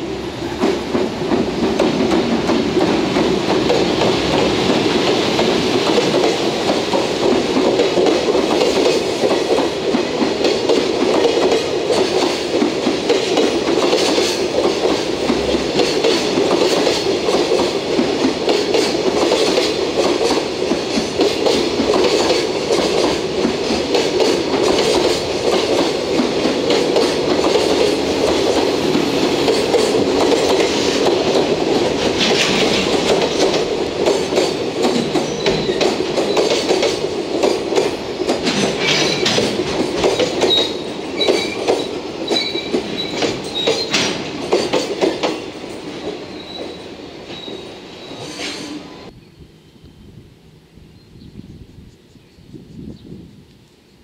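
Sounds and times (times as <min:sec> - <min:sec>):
freight train rolling past: 0:00.0 - 0:52.1.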